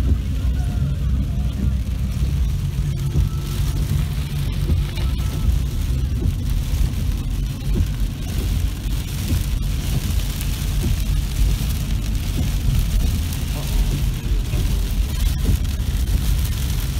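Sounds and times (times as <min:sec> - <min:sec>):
heavy rain on car roof: 0:00.0 - 0:16.9
road and engine rumble: 0:00.0 - 0:16.9.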